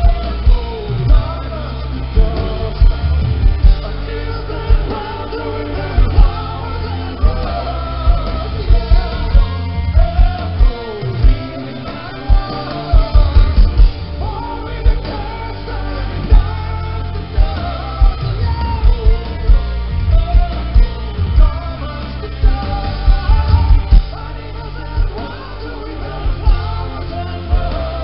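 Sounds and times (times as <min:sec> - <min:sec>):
drums: 0:00.0 - 0:28.0
electric guitars: 0:00.0 - 0:28.0
person singing: 0:00.0 - 0:28.0.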